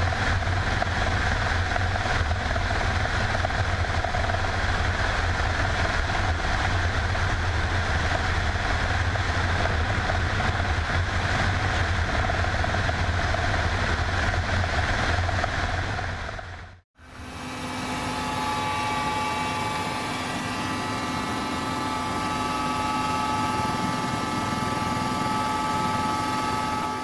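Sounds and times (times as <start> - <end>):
helicopter rotor and engine drone: 0.0 - 27.0.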